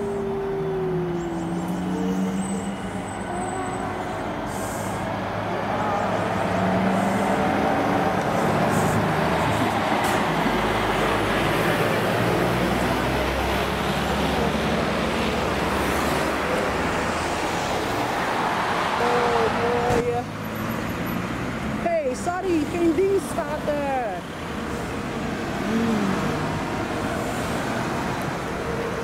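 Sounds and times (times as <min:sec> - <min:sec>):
lorry diesel engine rumbling: 0:00.0 - 0:29.0
road traffic: 0:00.0 - 0:29.0.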